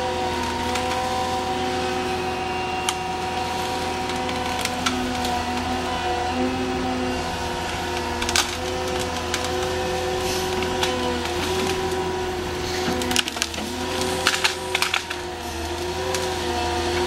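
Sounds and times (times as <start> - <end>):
machine hum with hydraulic whine: 0.0 - 17.0
wood cracking and splintering: 0.0 - 17.0.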